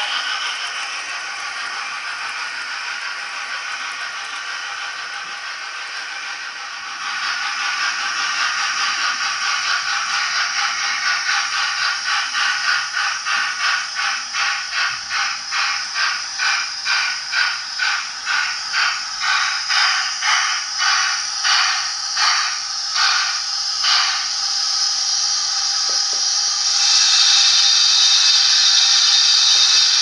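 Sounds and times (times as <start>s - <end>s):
rhythmic locomotive chuffing: 0.0s - 30.0s
steam hiss from small speaker: 5.4s - 30.0s.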